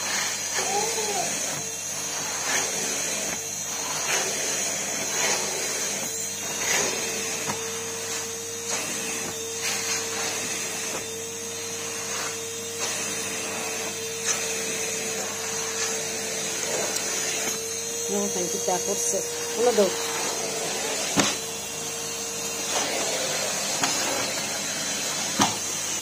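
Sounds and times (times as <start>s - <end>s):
vacuum cleaner whining: 0.0s - 26.0s.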